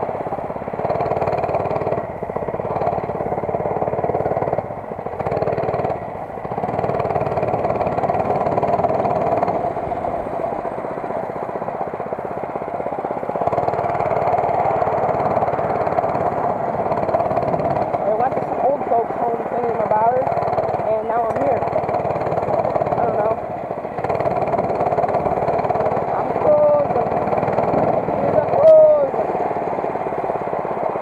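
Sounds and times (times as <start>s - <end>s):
minibike engine running: 0.0s - 31.0s.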